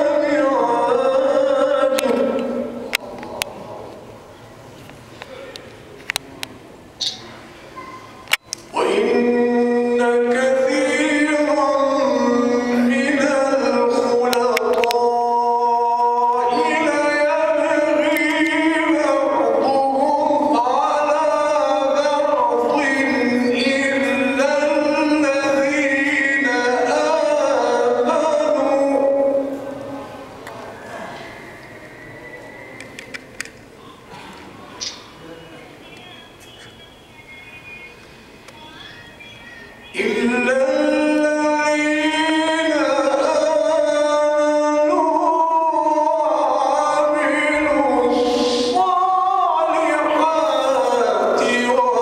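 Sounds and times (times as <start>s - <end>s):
man reciting melodically: 0.0s - 4.3s, 8.6s - 31.4s, 33.6s - 52.0s.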